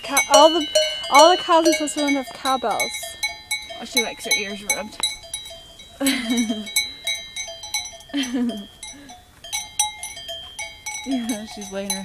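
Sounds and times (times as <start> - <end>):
cowbells clanking: 0.0 - 12.0.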